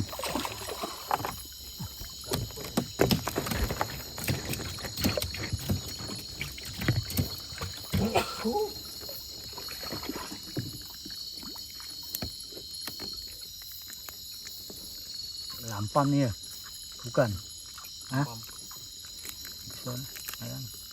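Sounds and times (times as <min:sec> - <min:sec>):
water sloshing and splashing: 0:00.0 - 0:20.9.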